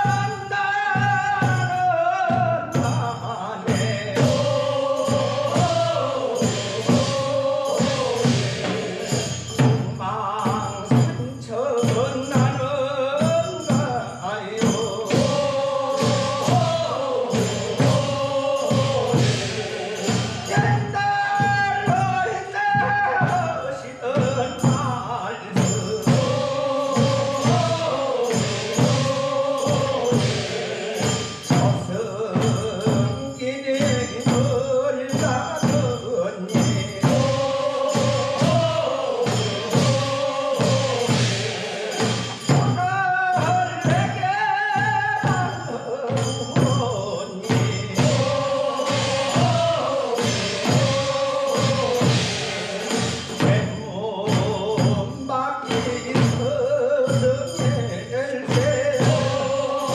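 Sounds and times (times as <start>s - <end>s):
men singing in chorus: 0.0s - 59.9s
steady drum beat: 0.0s - 59.9s.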